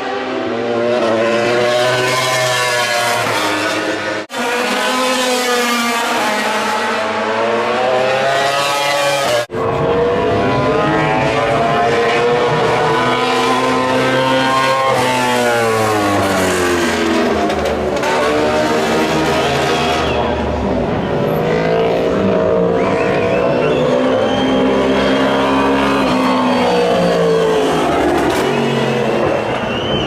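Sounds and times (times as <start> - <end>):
racing motorcycle engines: 0.0 - 30.0.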